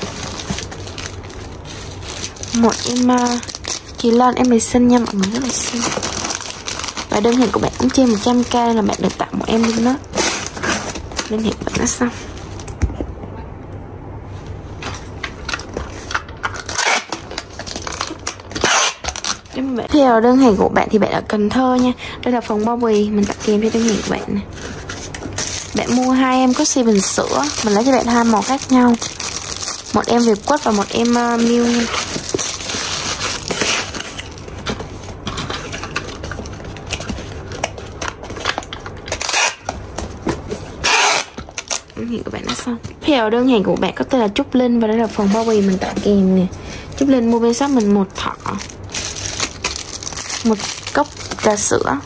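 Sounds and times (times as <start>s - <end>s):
plastic packaging crinkling: 0.0s - 12.8s, 14.8s - 52.0s.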